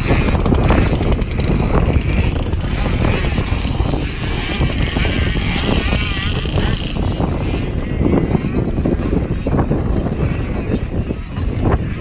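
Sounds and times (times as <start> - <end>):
two-stroke motocross engine: 0.0 - 12.0
wind buffeting microphone: 0.0 - 12.0.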